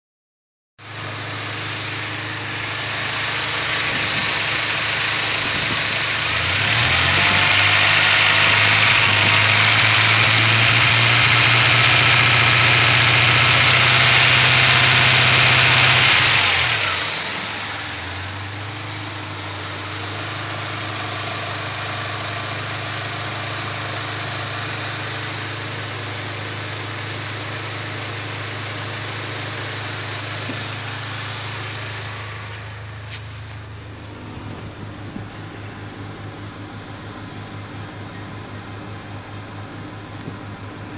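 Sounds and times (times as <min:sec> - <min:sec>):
car engine idling and revving: 0:00.8 - 0:40.9.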